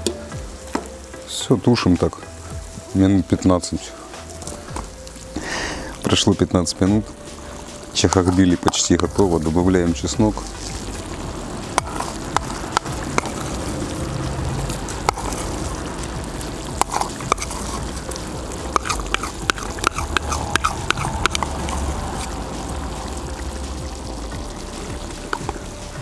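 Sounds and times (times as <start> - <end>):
stew bubbling in a pot: 2.2 - 26.0.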